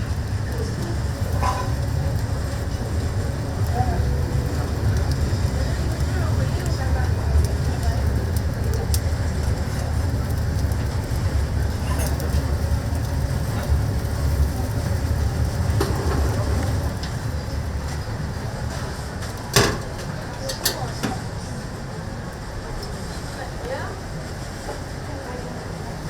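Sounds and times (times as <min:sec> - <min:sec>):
kitchen low rumble: 0:00.0 - 0:21.6.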